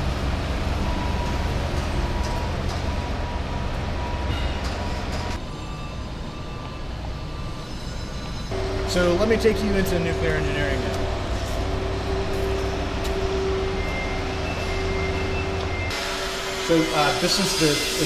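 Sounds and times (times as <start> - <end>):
construction machinery rumble: 0.0 - 18.0.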